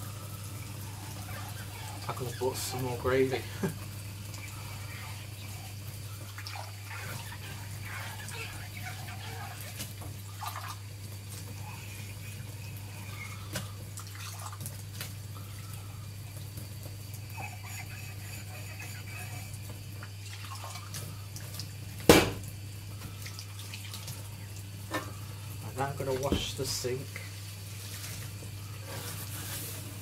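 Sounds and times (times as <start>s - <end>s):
steady low hum: 0.0s - 30.0s
water splashing in sink: 0.0s - 30.0s.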